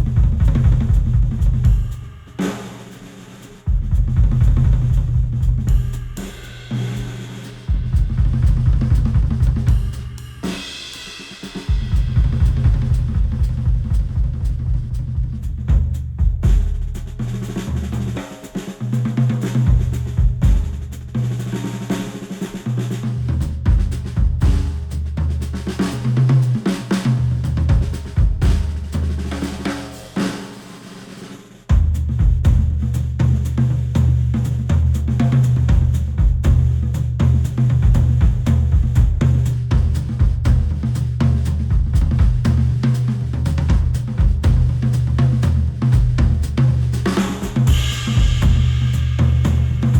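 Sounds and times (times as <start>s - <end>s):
instrumental music with drum kit: 0.0s - 49.9s.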